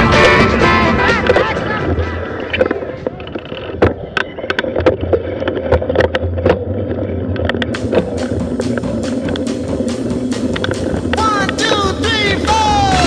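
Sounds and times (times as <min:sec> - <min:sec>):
bike rattling over bumps: 0:00.0 - 0:13.0.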